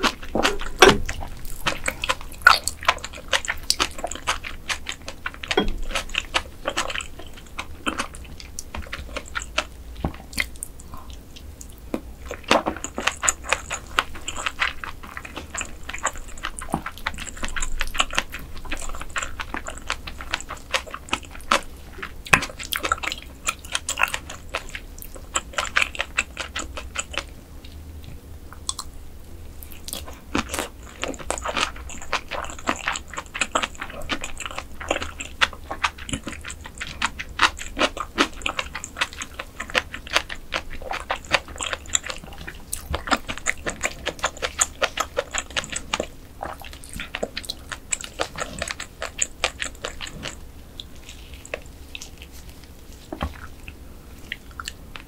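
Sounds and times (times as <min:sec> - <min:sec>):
wet chewing with crackly clicks: 0:00.0 - 0:55.0.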